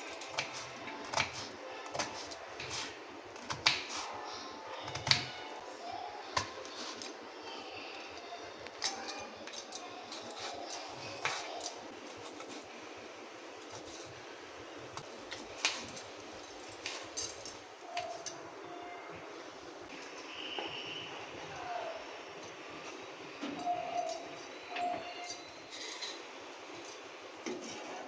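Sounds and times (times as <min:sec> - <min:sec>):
utensils clinking against a bowl: 0:00.0 - 0:12.7, 0:14.9 - 0:19.0, 0:19.9 - 0:28.0.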